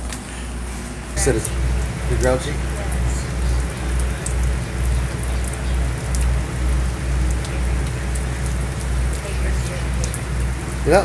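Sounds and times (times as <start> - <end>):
low pulsing rumble: 0.0 - 11.0
rain patter: 0.0 - 11.0
drops ticking sharply: 1.1 - 11.0.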